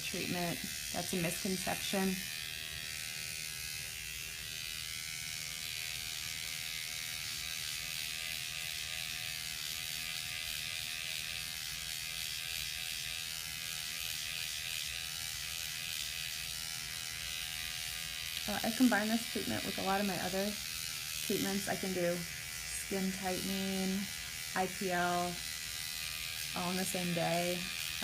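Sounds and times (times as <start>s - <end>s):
electric pen motor buzzing: 0.0s - 28.0s.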